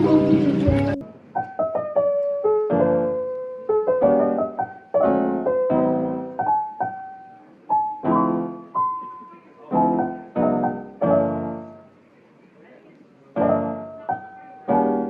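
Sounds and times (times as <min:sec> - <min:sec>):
slow gentle piano melody: 0:00.0 - 0:12.0, 0:13.3 - 0:15.0.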